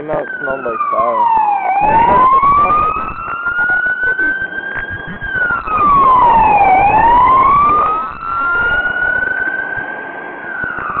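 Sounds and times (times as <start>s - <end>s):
fire engine siren wailing: 0.0s - 11.0s.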